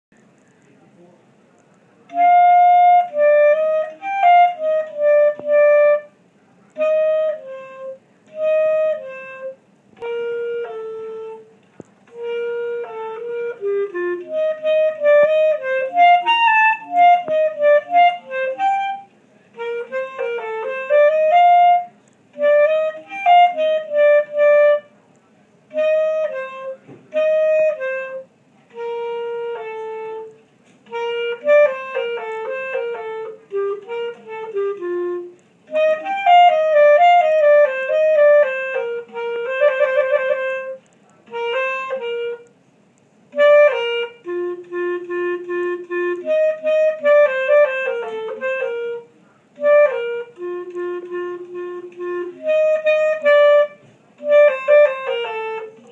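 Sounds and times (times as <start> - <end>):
clarinet solo: 2.1 - 55.9.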